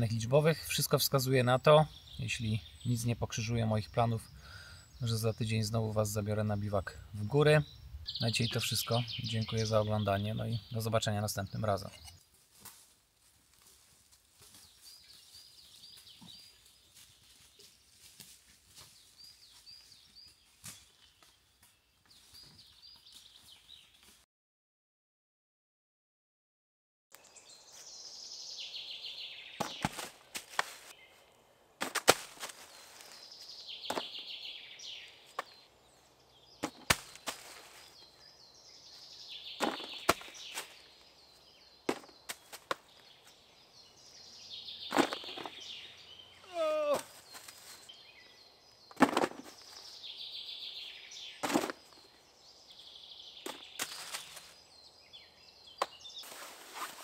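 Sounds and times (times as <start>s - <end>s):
bird singing: 0.0s - 12.3s, 14.6s - 18.1s, 18.9s - 24.1s, 27.2s - 30.0s, 32.6s - 57.0s.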